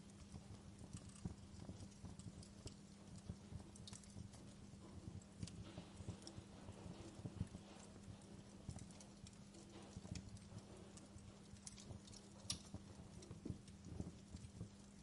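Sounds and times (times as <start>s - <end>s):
faint low hum: 0.0s - 15.0s
wood fire crackling and popping: 0.0s - 15.0s.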